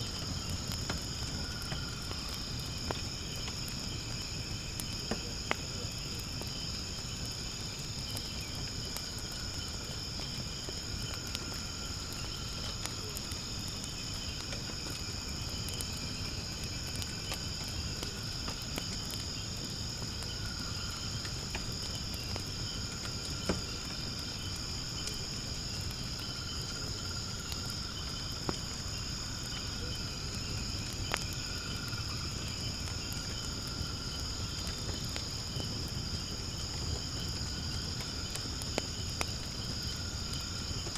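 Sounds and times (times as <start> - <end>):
low fire rumble: 0.0 - 40.9
wood fire crackling: 0.0 - 40.9.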